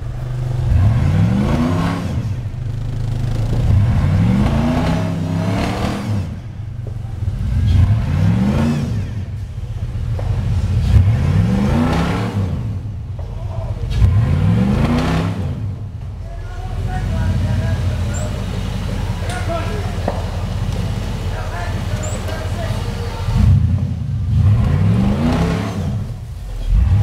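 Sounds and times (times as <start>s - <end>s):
buggy engine revving: 0.0s - 27.0s.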